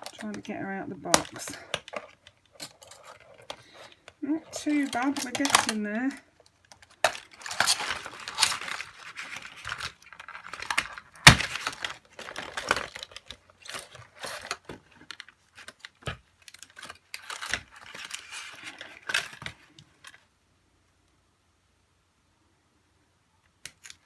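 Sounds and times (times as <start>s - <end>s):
packaging crinkling and rustling: 0.0s - 20.3s.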